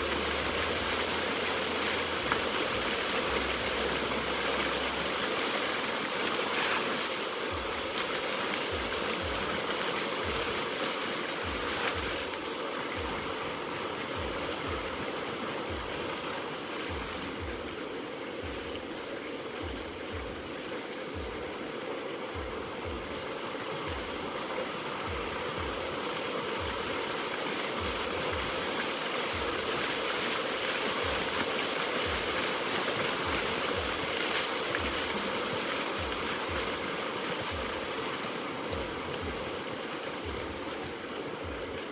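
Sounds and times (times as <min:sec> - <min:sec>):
fountain water splashing: 0:00.0 - 0:41.9.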